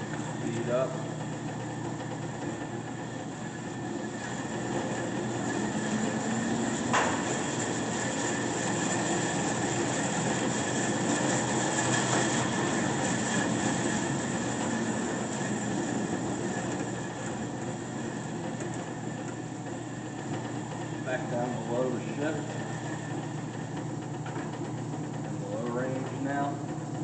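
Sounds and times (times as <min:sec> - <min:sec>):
bandsaw whirring: 0:00.0 - 0:27.0.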